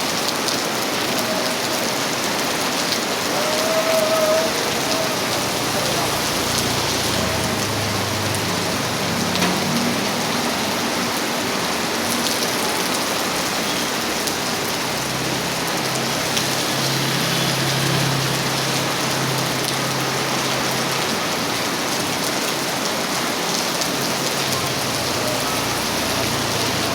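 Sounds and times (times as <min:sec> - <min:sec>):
heavy rain falling: 0:00.0 - 0:26.9.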